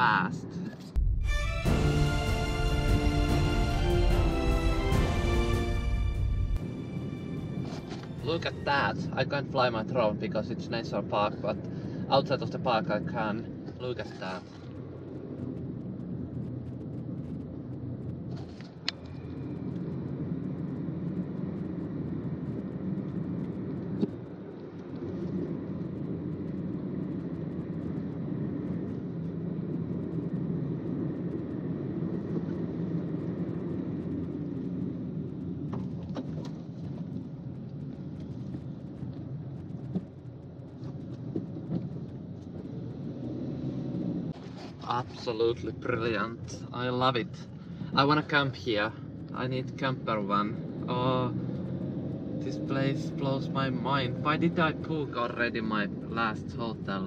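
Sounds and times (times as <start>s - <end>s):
car driving rumble from inside: 6.2s - 57.0s.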